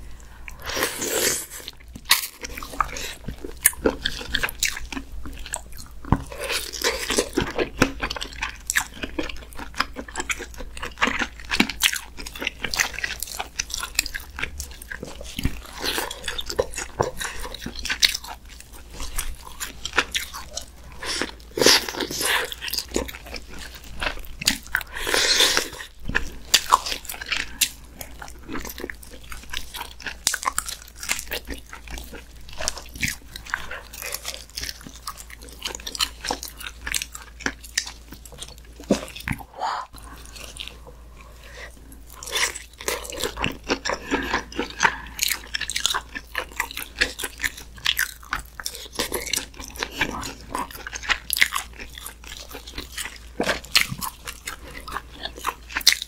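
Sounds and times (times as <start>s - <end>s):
chewing and biting mouth noises: 0.1s - 56.0s.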